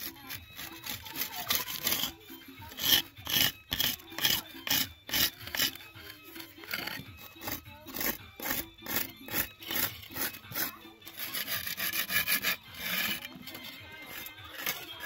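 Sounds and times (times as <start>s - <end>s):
rhythmic rasping strokes: 0.0s - 15.0s.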